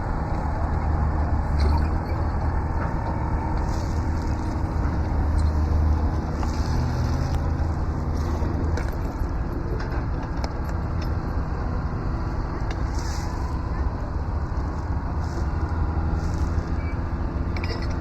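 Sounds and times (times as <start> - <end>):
dragline engine droning: 0.0 - 18.0.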